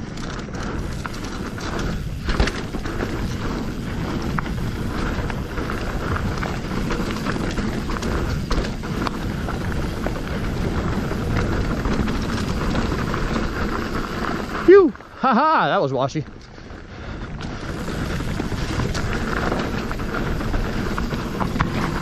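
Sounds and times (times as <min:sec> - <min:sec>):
bike rattling over bumps: 0:00.0 - 0:22.0
bike tyres rumbling over dirt: 0:00.0 - 0:22.0.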